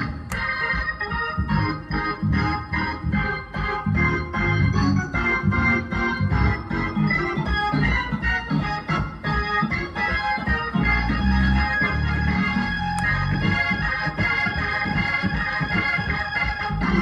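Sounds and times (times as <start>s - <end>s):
gospel keyboard chords: 0.0s - 17.0s.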